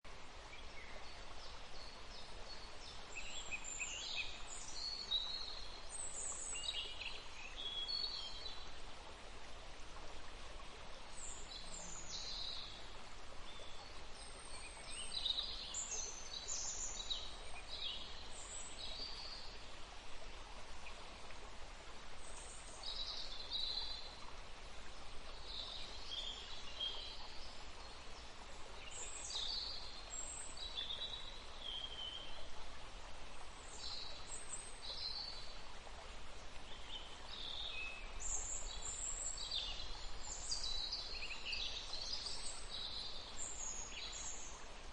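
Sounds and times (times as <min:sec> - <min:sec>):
steady background hiss: 0:00.1 - 0:44.9.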